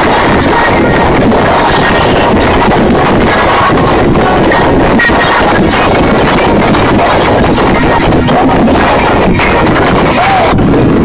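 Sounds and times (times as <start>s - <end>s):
distorted loud car stereo music: 0.0s - 11.0s.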